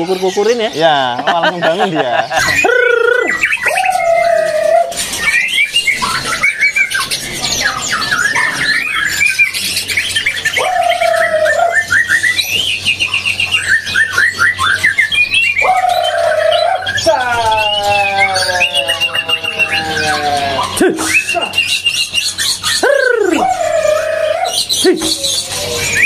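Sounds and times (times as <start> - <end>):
songbirds chirping and trilling: 0.0 - 26.0
low held bird call: 2.3 - 6.8, 8.0 - 26.0.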